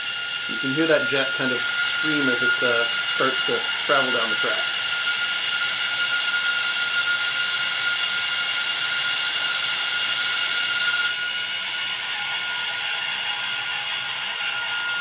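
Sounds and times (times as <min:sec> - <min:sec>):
high-pitched locomotive whine: 0:00.0 - 0:15.0.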